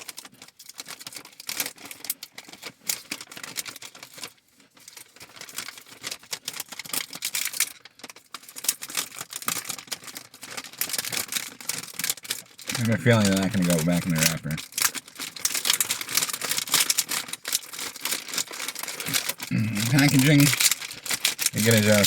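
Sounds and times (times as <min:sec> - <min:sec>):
plastic wrapper crinkling: 0:00.0 - 0:22.0.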